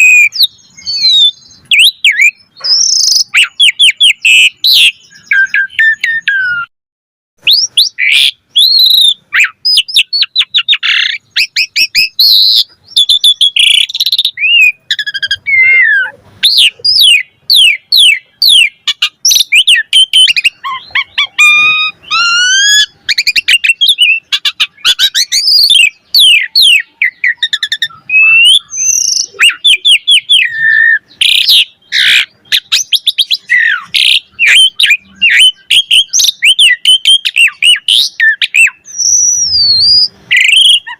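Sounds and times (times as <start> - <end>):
starling singing: 0.0 - 6.7, 7.4 - 40.9.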